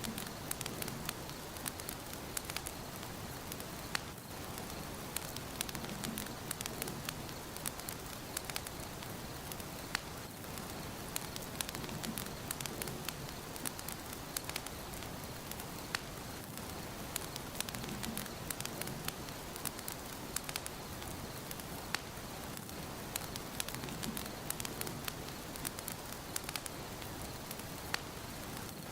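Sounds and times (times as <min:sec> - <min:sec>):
wood fire crackling and hissing: 0:00.0 - 0:28.9.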